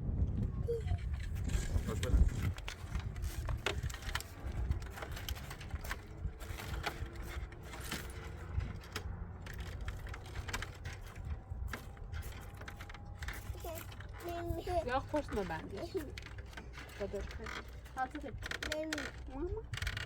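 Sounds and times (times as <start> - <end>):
small objects clicking and rattling: 1.0 - 20.0.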